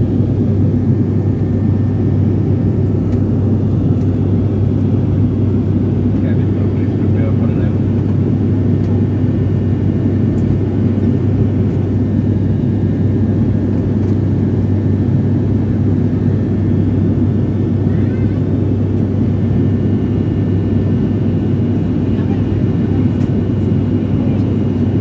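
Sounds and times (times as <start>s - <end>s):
airliner cabin engine drone: 0.0s - 25.0s.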